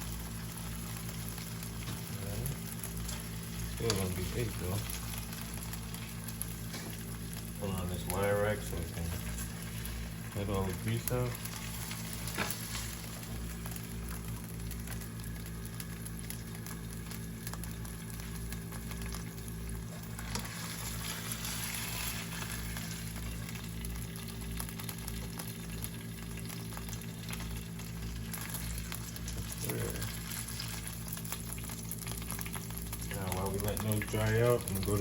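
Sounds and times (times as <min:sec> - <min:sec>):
oil sizzling in a frying pan: 0:00.0 - 0:35.0.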